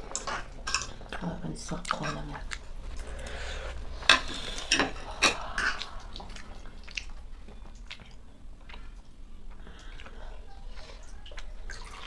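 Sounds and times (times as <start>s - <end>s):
slurping and chewing noodles: 1.9s - 12.0s.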